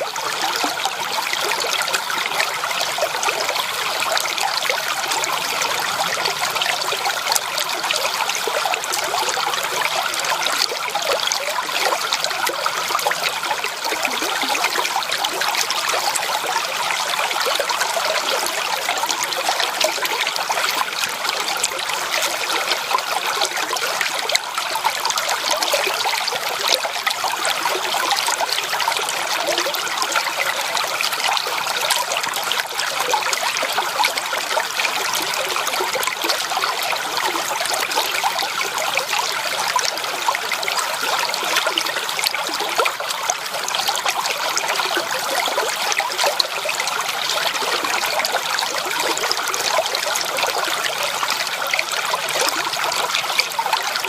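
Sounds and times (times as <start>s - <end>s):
creek water babbling over stones: 0.0s - 54.0s.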